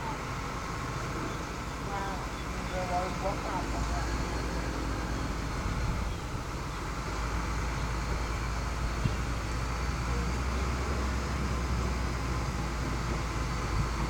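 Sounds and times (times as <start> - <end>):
diesel machinery rumbling: 0.0 - 14.0.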